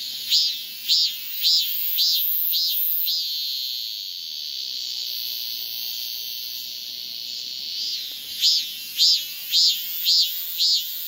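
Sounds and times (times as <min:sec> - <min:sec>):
cicada buzzing: 0:00.0 - 0:11.0
cicada pulsed notes: 0:00.0 - 0:11.0.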